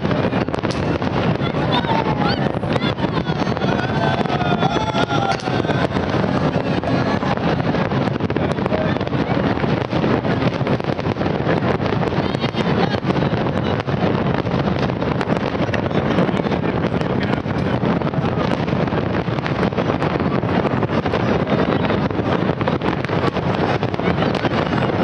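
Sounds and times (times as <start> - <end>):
fireworks rumbling and crackling: 0.0 - 25.0
wind buffeting microphone: 0.0 - 25.0.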